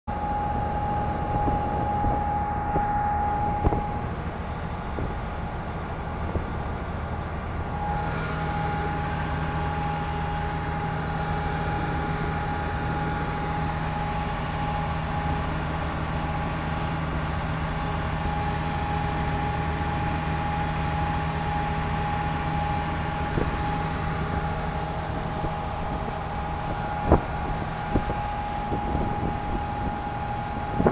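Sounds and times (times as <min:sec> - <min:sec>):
deeper hum: 0:00.0 - 0:30.9
engine drone with high tone: 0:00.0 - 0:30.9.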